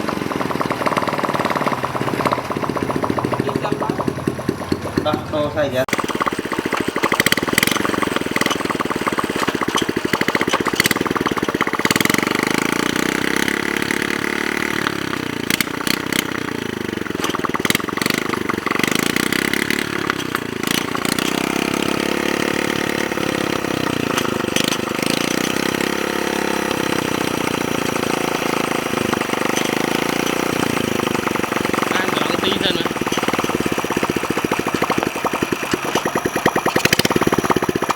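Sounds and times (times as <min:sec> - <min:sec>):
sharp clicks and knocks: 0:00.0 - 0:37.9
small motorcycle engine revving: 0:00.0 - 0:37.9.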